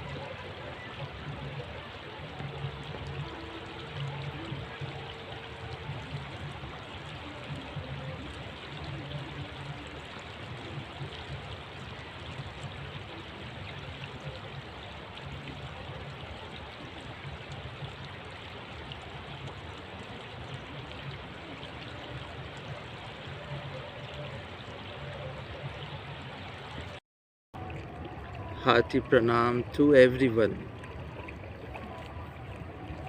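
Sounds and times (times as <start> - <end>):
running water: 0.0 - 27.0, 27.6 - 33.0.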